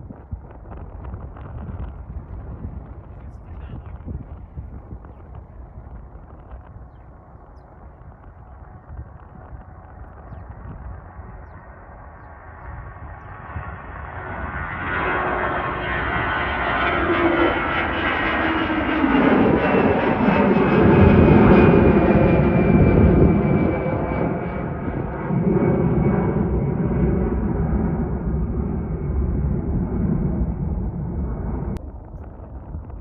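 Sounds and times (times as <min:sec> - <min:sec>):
heavy rumble: 0:00.0 - 0:33.0
jet engines passing by: 0:00.0 - 0:33.0.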